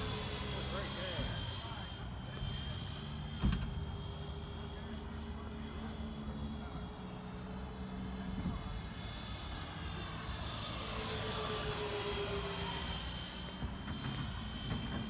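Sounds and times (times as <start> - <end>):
rc jet ducted fans whining: 0.0 - 15.0.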